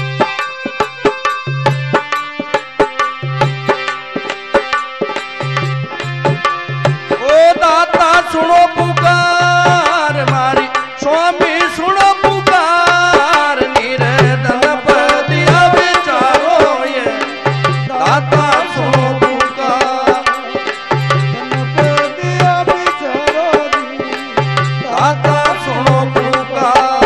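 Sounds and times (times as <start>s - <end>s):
fast hand-drum rhythm: 0.0s - 27.0s
ornamented melody line: 0.0s - 27.0s.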